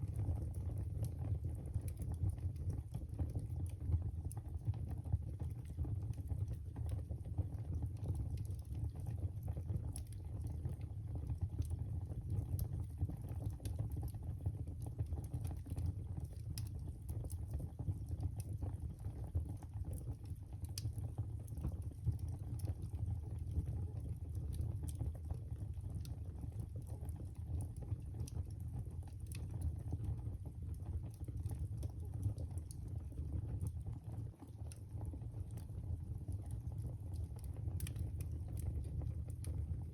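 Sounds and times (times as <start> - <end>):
low rumble of burning fire: 0.0 - 39.9
fire pops and snaps: 0.1 - 39.9.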